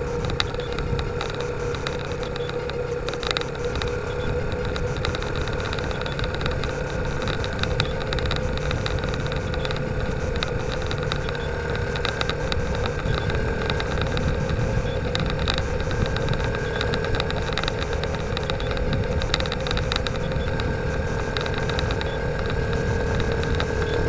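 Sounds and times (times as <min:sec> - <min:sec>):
low rumbling wind noise: 0:00.0 - 0:24.0
motorcycle engine cruising: 0:00.0 - 0:24.0.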